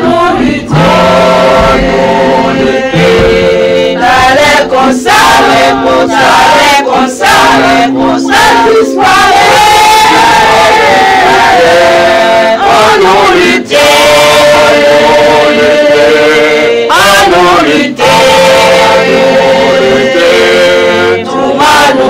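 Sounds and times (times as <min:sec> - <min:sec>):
women's choir singing a hymn: 0:00.0 - 0:22.0.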